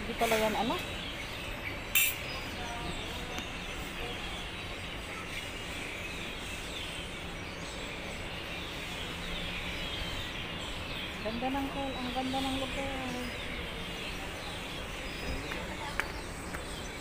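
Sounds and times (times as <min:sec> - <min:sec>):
birds chirping: 0:00.0 - 0:17.0
outdoor background hum: 0:00.0 - 0:17.0.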